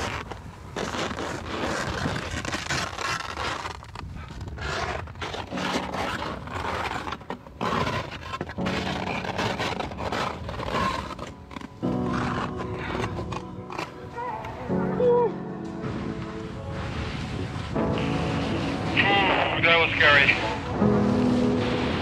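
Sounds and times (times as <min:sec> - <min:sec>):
ski edges scraping hard snow: 0:00.0 - 0:14.8, 0:15.7 - 0:22.0.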